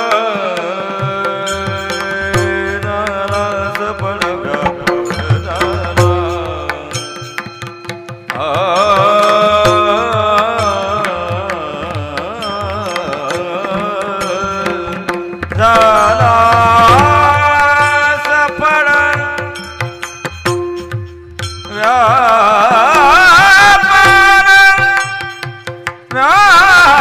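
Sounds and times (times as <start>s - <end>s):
man singing devotional song: 0.0s - 27.0s
percussion: 0.0s - 27.0s.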